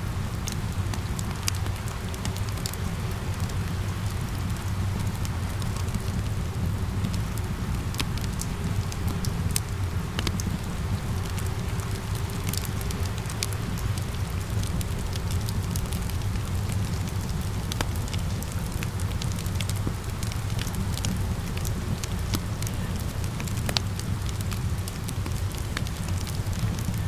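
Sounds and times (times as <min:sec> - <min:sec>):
rain patter: 0:00.0 - 0:27.0
wood fire crackling: 0:00.0 - 0:27.0.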